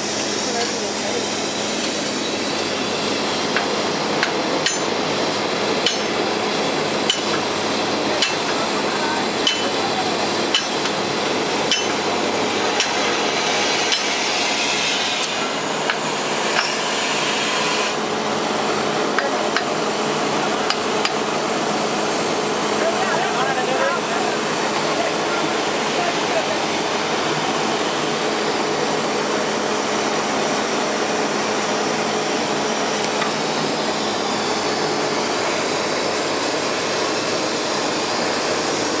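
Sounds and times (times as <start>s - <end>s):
steam locomotive hissing: 0.0s - 39.0s.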